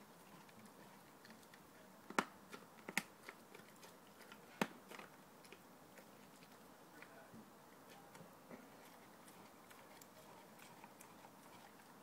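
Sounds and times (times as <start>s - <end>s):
dog chewing meat: 0.1s - 7.2s, 7.8s - 12.0s.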